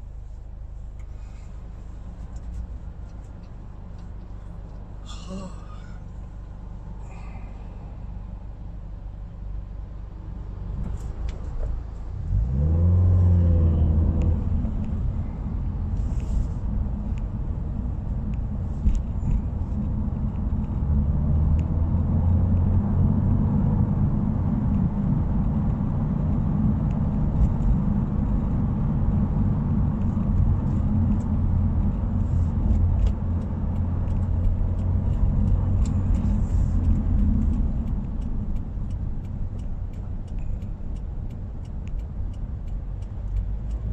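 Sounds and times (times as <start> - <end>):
car engine and exhaust driving: 0.0 - 43.9.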